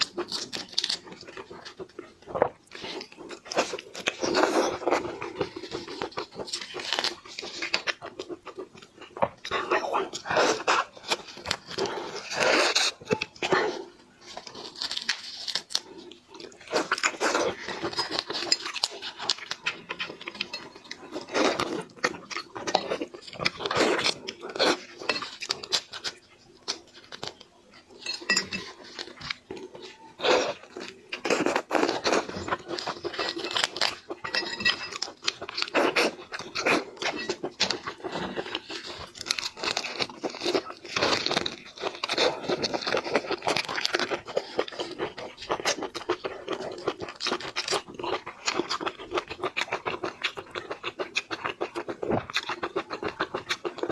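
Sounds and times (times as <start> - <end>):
crunching and chewing seafood: 0.0 - 53.9.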